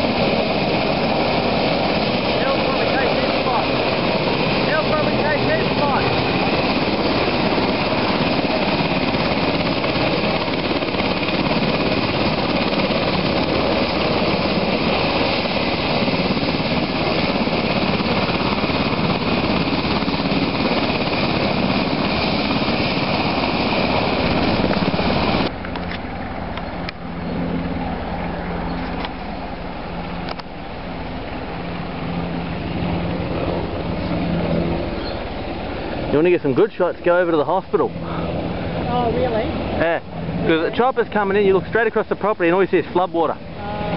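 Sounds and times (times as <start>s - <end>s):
helicopter rotor and turbine: 0.0s - 43.9s.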